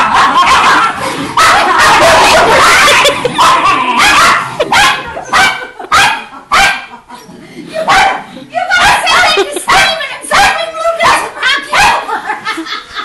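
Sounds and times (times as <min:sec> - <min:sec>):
dogs barking and yipping: 0:00.0 - 0:12.3.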